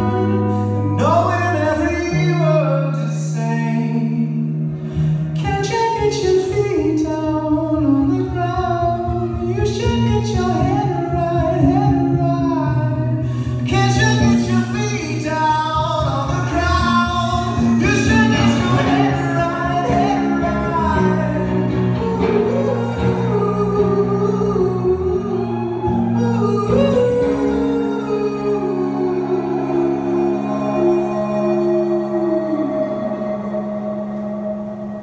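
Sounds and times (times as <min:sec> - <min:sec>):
amplified electric guitar: 0:00.0 - 0:35.0
person singing: 0:00.0 - 0:35.0.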